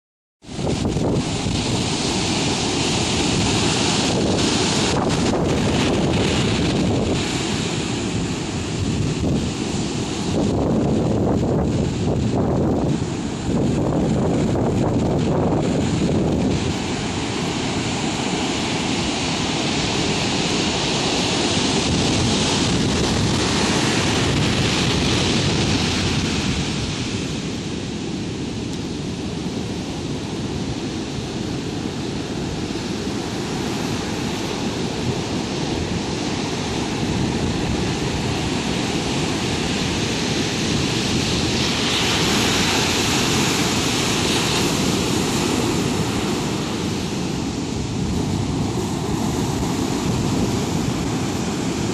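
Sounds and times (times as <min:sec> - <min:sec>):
heavy surf roaring: 0:00.4 - 0:51.9.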